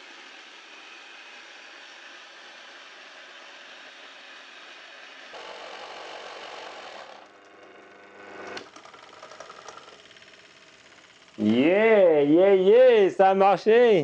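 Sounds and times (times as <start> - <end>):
electric grain mill whirring: 0.0 - 12.7.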